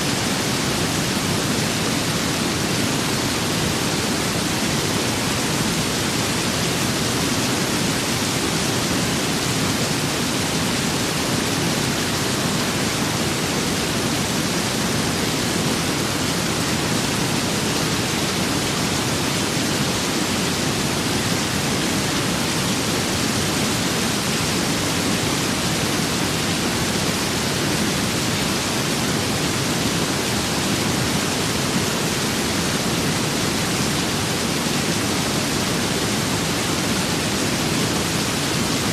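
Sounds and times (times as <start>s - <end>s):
steady rain with wind: 0.0s - 38.9s.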